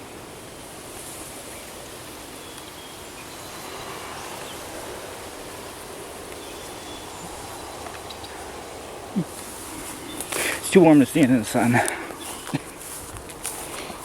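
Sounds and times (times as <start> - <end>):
continuous hiss: 0.0 - 14.0
insect drone: 0.0 - 14.0.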